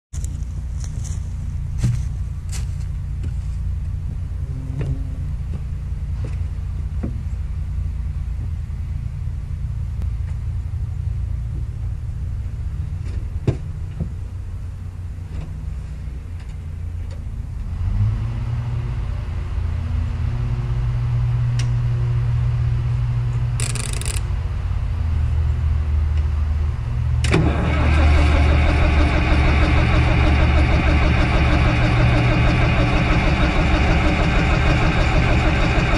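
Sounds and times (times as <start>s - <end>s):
crawler tractor engine rumbling: 0.1s - 35.9s.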